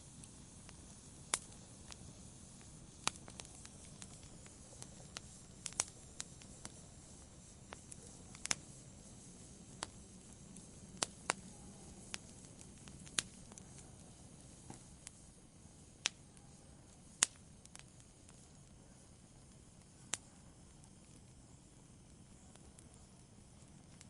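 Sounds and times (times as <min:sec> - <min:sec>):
burning wood popping and crackling: 0:00.0 - 0:24.0
low rush of flame: 0:00.0 - 0:24.0.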